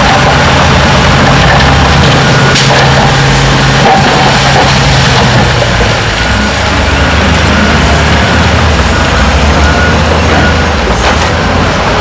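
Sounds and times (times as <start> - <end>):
diesel engine low drone: 0.0 - 12.0.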